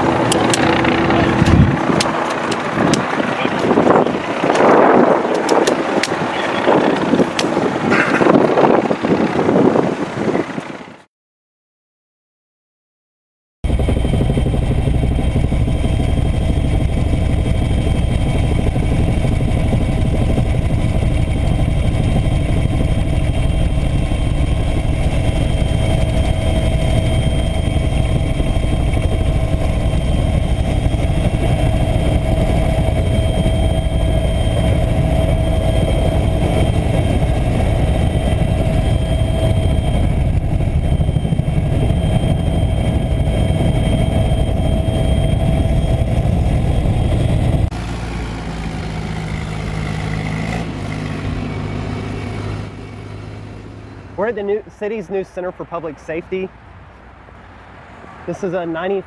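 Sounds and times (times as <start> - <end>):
machinery droning: 0.0 - 11.0, 13.7 - 56.5.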